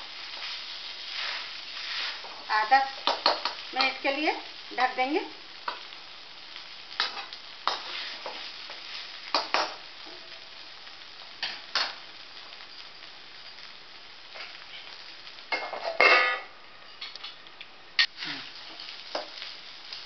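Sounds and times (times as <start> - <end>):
food sizzling: 0.0 - 20.0.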